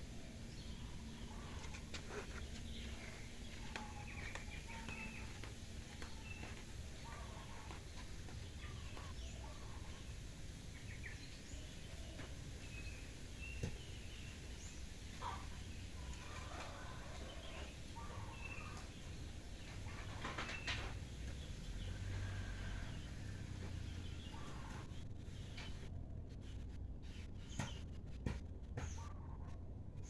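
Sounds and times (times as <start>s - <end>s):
birds chirping: 0.0s - 25.8s.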